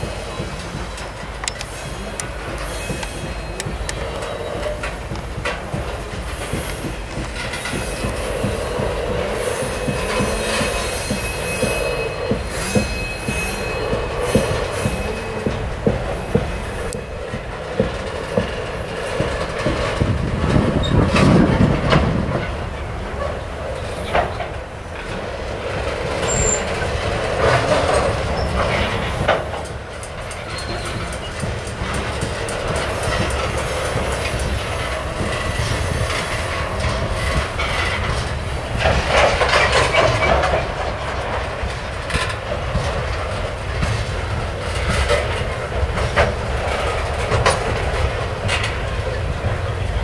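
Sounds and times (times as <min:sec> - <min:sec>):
clanks and clicks: 0:00.0 - 0:50.0
freight train wheels rumbling: 0:00.0 - 0:50.0.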